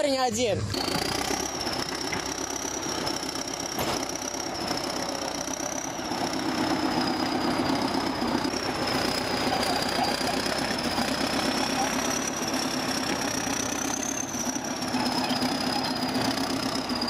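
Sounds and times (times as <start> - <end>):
bulldozer diesel engine under load: 0.0 - 17.0.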